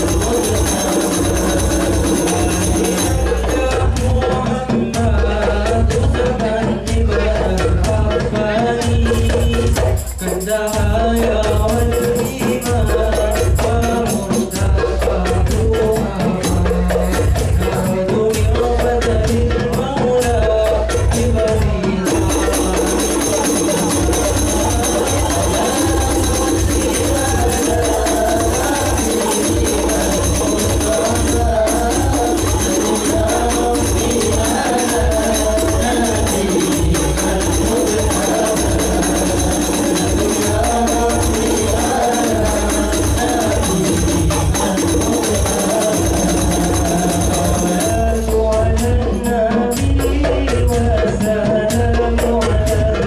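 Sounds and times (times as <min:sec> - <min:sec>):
frame drums with jingles: 0:00.0 - 0:53.0
young men singing together: 0:00.0 - 0:53.0.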